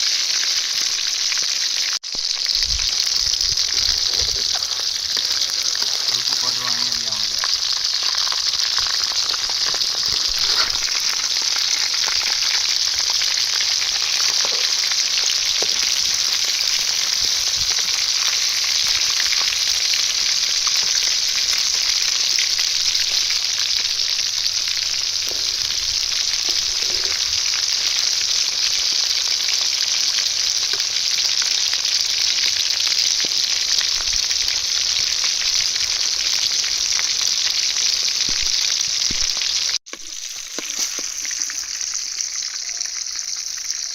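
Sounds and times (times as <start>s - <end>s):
curry sizzling in oil: 0.0s - 43.9s.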